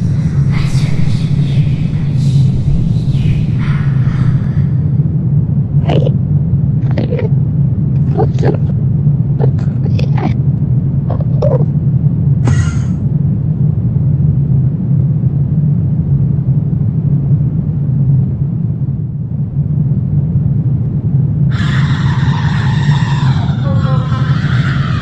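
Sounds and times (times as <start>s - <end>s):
low ambient drone: 0.0s - 25.0s.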